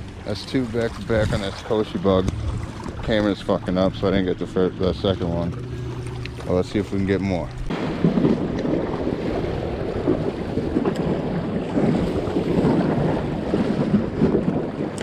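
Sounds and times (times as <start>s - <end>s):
water washing against seawall: 0.0s - 15.0s
wind buffeting microphone: 0.0s - 15.0s.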